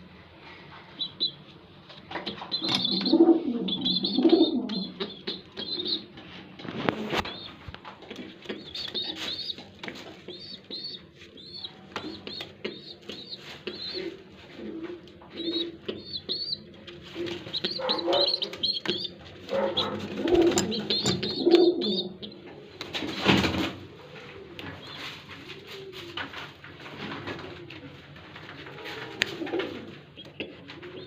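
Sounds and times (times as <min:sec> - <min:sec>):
pigeons cooing: 0:02.4 - 0:31.0.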